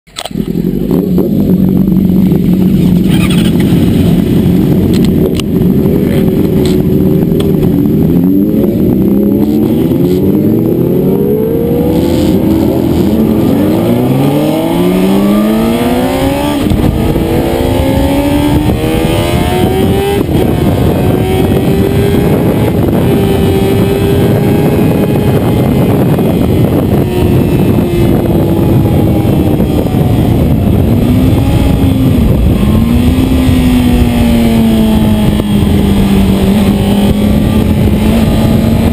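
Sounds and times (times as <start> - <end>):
motorcycle engine accelerating: 0.1 - 38.9
wind rushing: 0.7 - 38.9.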